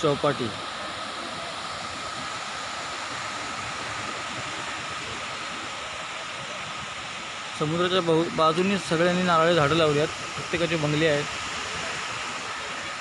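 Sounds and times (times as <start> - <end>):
sea surf on sandy beach: 0.0 - 13.0.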